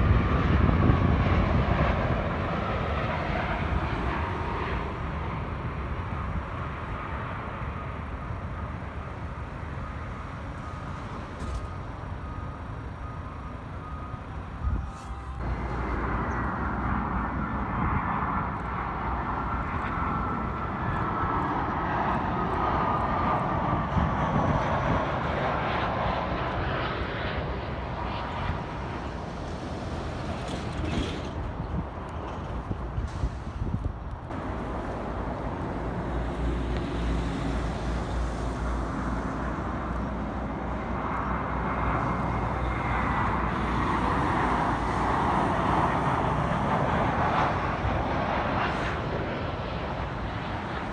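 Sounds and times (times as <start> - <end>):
jet airliner passing by: 0.0 - 50.9
wind rumble on microphone: 0.0 - 50.9.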